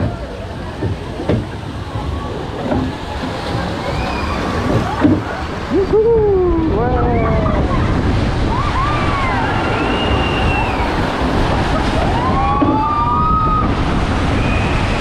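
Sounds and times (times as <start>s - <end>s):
rush of water and wind: 0.0s - 15.0s.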